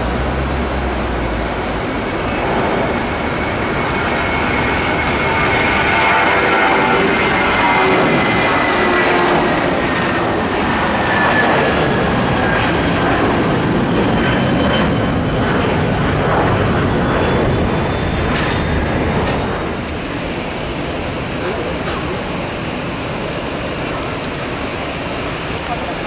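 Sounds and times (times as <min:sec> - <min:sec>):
jet airliner taking off: 0:00.0 - 0:26.0.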